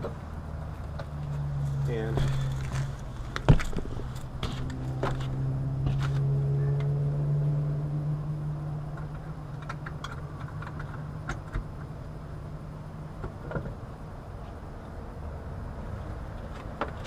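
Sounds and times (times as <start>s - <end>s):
low machinery rumble: 0.0s - 16.6s.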